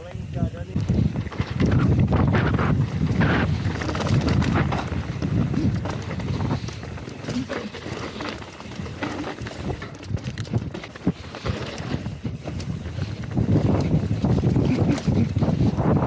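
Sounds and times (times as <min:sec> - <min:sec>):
bike rattling over ground: 0:00.0 - 0:16.0
wind buffeting microphone: 0:00.0 - 0:16.0.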